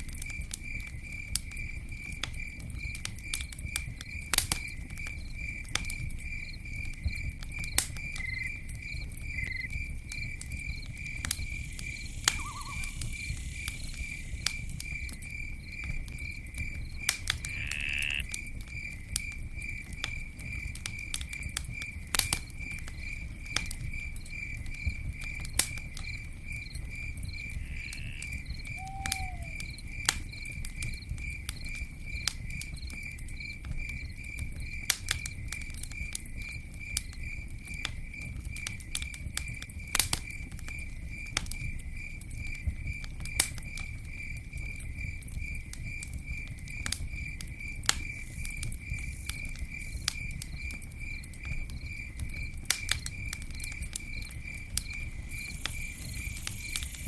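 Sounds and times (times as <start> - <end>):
campfire crackling and popping: 0.0 - 57.0
cricket chirping: 0.0 - 57.0.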